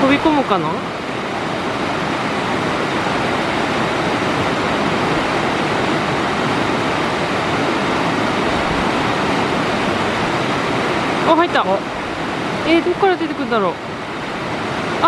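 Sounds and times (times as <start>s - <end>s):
stream rushing over rapids: 0.0s - 15.0s.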